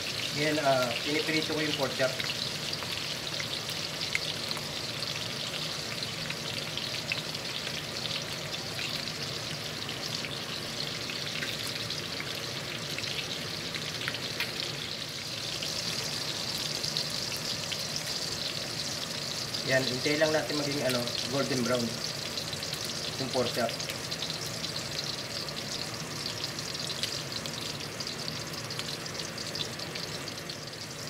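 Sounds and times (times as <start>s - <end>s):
crackles and pops of frying: 0.0s - 31.0s
pork chops sizzling in hot oil: 0.0s - 31.0s.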